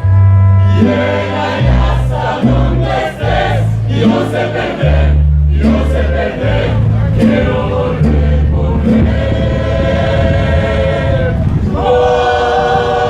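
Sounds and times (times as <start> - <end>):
deep bass line: 0.0 - 13.0
mariachi band playing: 0.0 - 13.0
voices singing together: 0.6 - 13.0.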